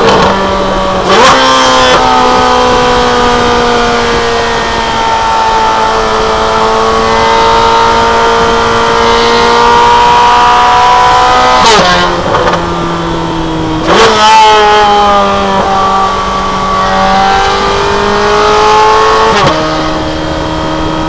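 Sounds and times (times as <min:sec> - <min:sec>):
exhaust crack at upshift: 0:00.0 - 0:21.0
sports car engine accelerating: 0:00.0 - 0:21.0.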